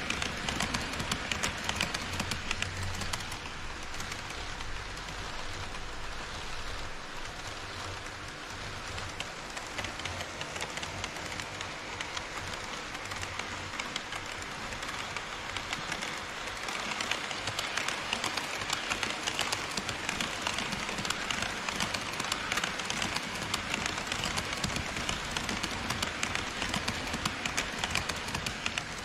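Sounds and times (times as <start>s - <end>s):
model train wheels rattling: 0.0s - 29.0s.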